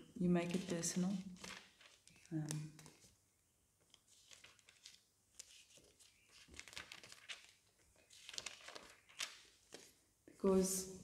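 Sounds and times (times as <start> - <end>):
paper rustling: 0.4 - 3.2, 3.8 - 10.0.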